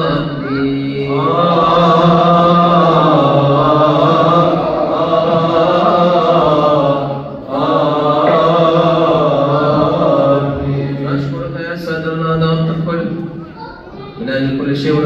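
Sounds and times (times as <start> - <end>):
man chanting a hymn: 0.0 - 13.3, 14.2 - 15.0.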